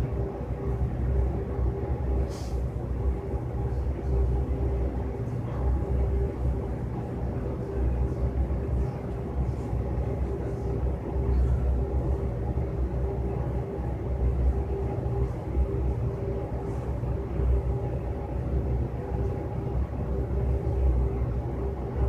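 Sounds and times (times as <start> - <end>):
ventilation system hum: 0.0 - 22.0.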